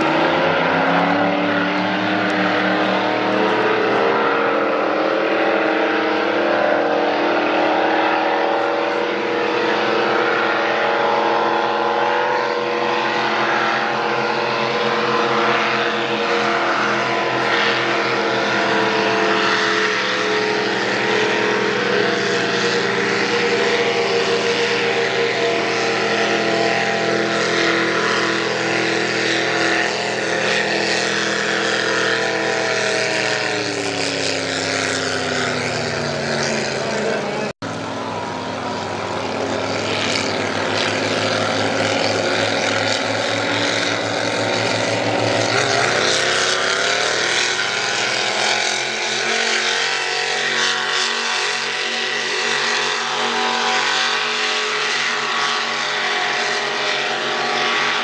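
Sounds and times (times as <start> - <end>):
racing boat engines droning: 0.0 - 58.0.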